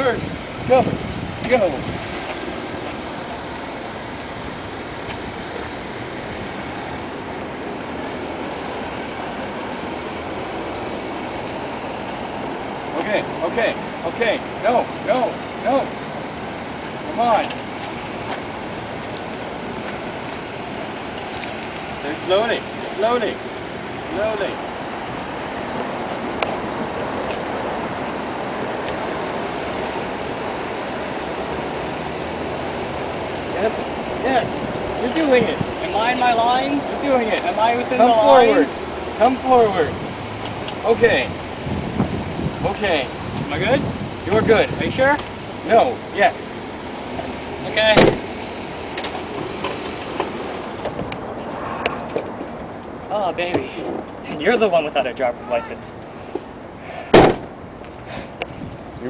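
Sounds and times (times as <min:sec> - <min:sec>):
minivan engine idling: 0:00.0 - 0:59.0
steady rushing outdoor noise: 0:00.0 - 0:59.0.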